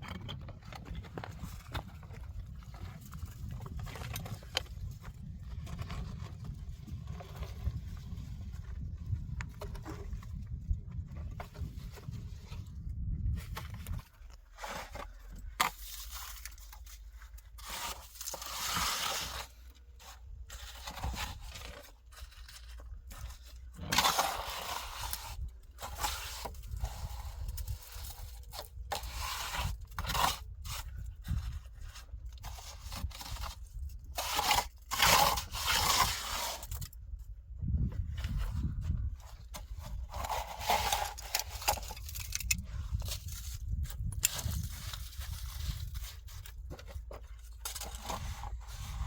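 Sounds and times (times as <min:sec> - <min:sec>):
scraping and rustling: 0:00.0 - 0:37.0, 0:37.8 - 0:49.0.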